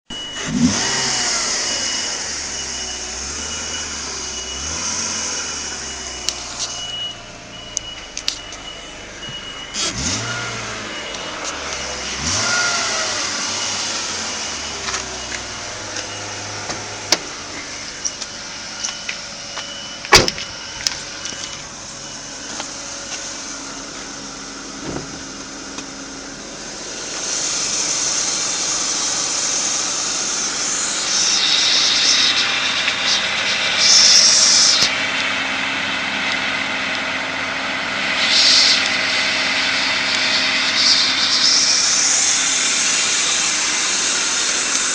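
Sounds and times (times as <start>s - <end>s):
car engine running: 0.1s - 44.9s.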